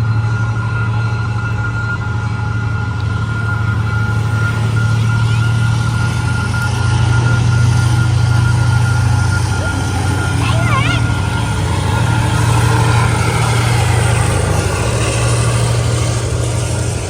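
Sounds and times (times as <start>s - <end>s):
diesel locomotive engine drone: 0.0s - 17.0s
thin steady whine: 0.0s - 17.0s.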